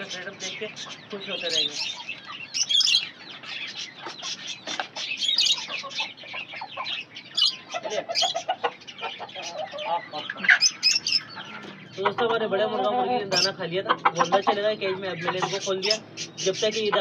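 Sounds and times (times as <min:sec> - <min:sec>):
chickens clucking: 0:00.0 - 0:17.0
small cage birds chirping: 0:00.0 - 0:17.0.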